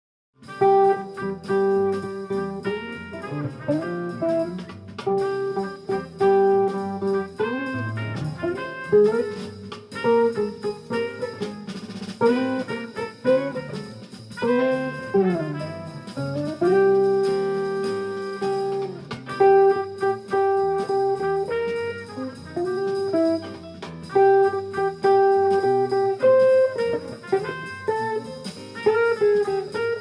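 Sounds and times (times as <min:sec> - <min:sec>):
drums: 0:00.4 - 0:30.0
jazz group playing: 0:00.4 - 0:30.0
jazz guitar: 0:00.4 - 0:30.0.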